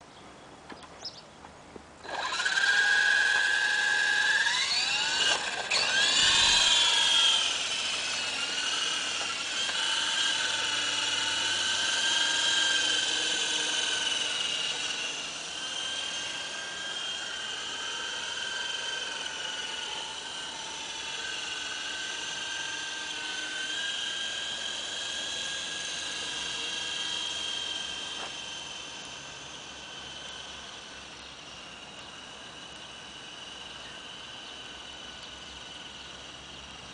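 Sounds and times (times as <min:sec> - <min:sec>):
model helicopter motor whine: 0:02.0 - 0:36.9.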